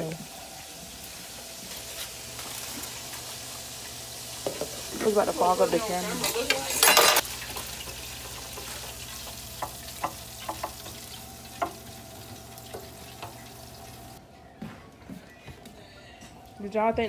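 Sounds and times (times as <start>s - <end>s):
oil sizzling while frying: 0.0s - 14.2s.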